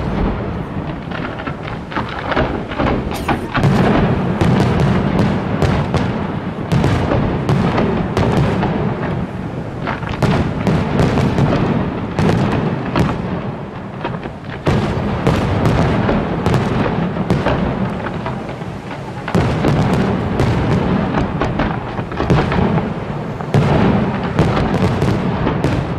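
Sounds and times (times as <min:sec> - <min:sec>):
fireworks booms and cracks: 0:00.0 - 0:25.9.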